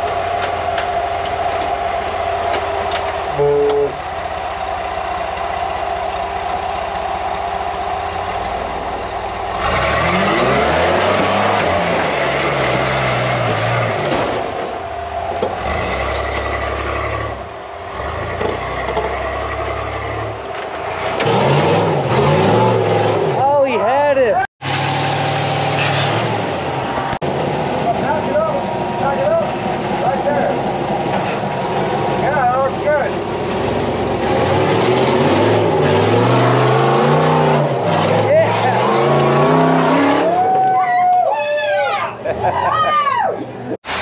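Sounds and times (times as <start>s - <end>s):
engine revving under load: 0.0s - 40.7s.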